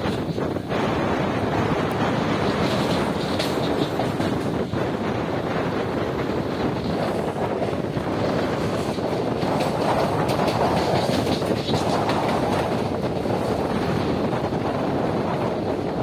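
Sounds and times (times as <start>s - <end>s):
wheels clattering over rail joints: 0.0s - 15.7s
train rolling rumble: 0.0s - 16.0s.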